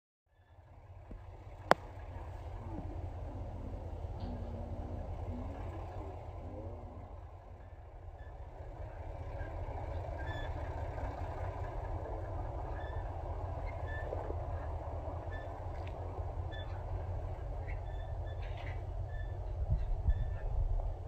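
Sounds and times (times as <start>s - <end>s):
tractor engine running: 0.3s - 21.0s.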